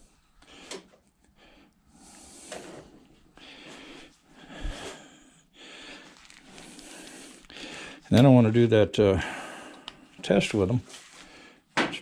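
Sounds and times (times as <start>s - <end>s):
person breathing softly: 0.0s - 8.1s, 9.2s - 10.2s, 11.0s - 11.7s.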